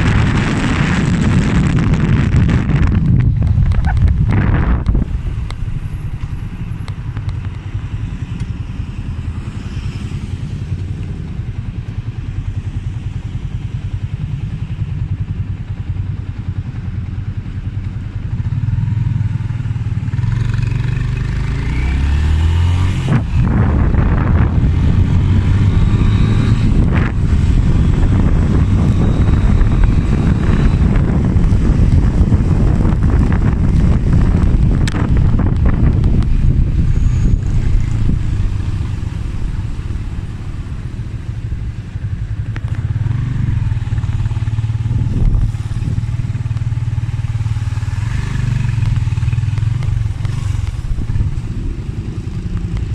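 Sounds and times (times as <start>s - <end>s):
motorcycle engine accelerating: 0.0s - 52.9s
wind noise on microphone: 0.0s - 52.9s.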